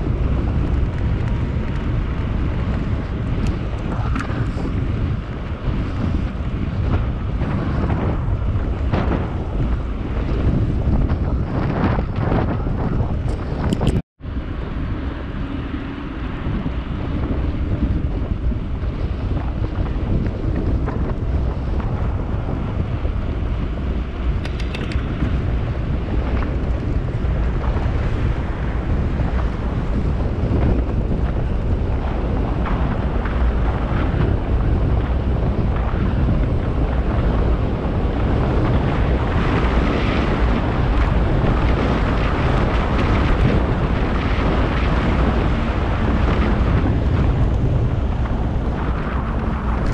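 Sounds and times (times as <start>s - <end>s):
wind on microphone: 0.0s - 49.9s.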